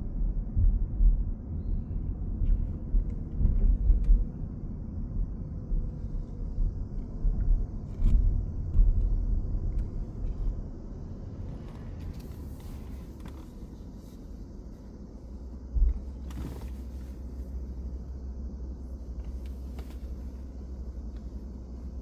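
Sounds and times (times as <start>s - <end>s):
low uneven rumble: 0.0s - 22.0s.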